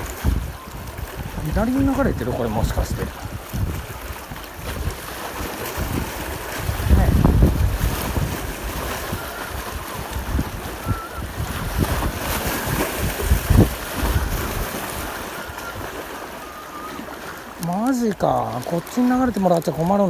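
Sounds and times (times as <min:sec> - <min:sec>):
hiss of wind and sea: 0:00.0 - 0:20.0
wind buffeting microphone: 0:00.0 - 0:20.0.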